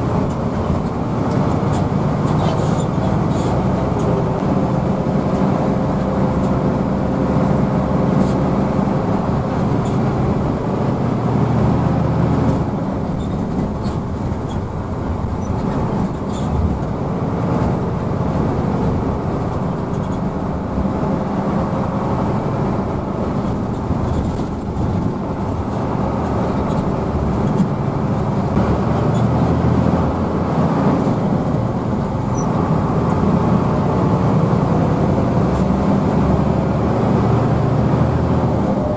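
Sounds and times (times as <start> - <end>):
bus diesel engine running: 0.0 - 38.9
road noise: 0.0 - 38.9.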